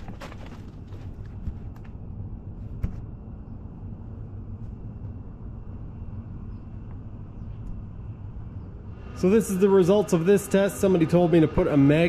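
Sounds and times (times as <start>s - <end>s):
heater exhaust rumble: 0.0s - 12.0s.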